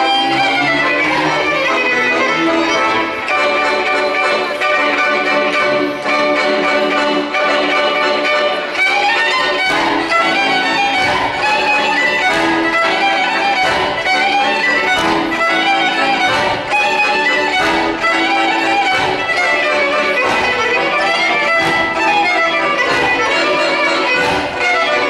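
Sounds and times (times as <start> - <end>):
folk dance music with fiddle: 0.0 - 25.0.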